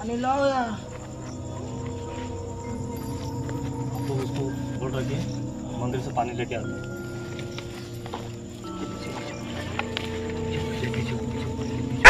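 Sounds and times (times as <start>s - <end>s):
music of long held tones: 0.0s - 12.0s.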